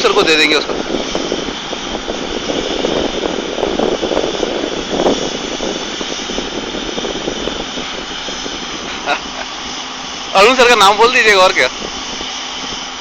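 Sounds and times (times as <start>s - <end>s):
loud mechanical running noise: 0.0s - 13.0s.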